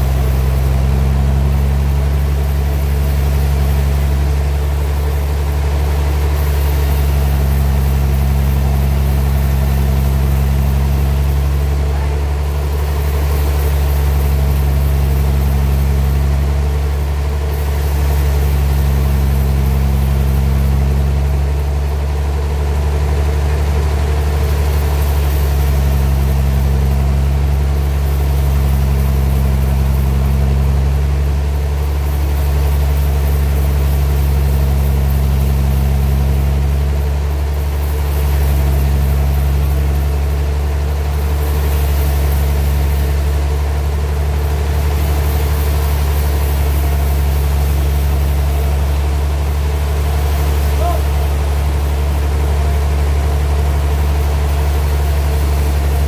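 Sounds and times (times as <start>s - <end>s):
sawmill engine humming: 0.0s - 56.0s.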